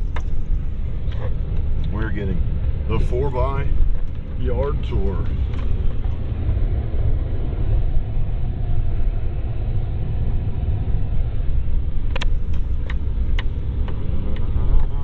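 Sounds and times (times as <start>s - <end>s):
truck engine and tyres rumbling: 0.0s - 15.0s.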